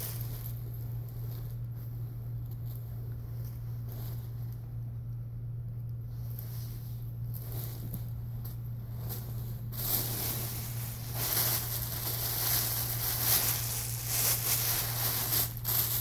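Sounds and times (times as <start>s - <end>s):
fabric and plastic rustling: 0.0s - 16.0s
steady low hum: 0.0s - 16.0s.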